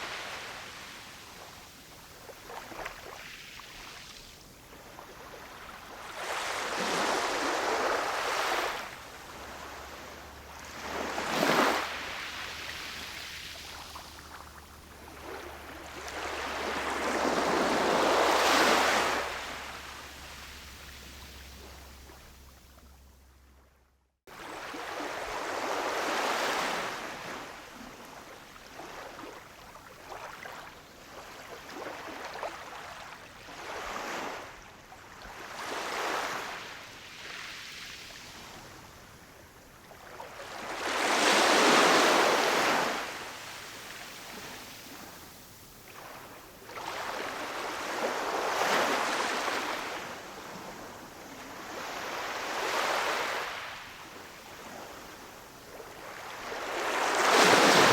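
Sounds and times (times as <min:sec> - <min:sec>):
ocean waves breaking on shore: 0:00.0 - 0:22.7, 0:24.3 - 0:34.6, 0:35.3 - 0:57.9.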